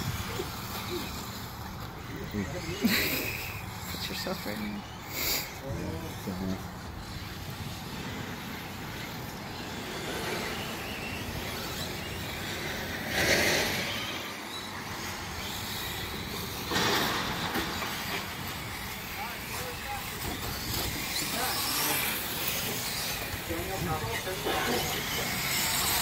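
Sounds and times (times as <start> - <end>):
rc cars racing on dirt: 0.0 - 26.0.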